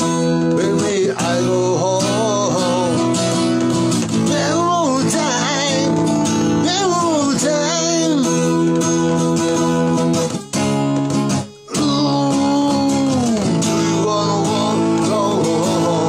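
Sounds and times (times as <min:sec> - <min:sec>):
man singing: 0:00.0 - 0:10.3, 0:11.6 - 0:16.0
acoustic guitar strumming: 0:00.0 - 0:16.0.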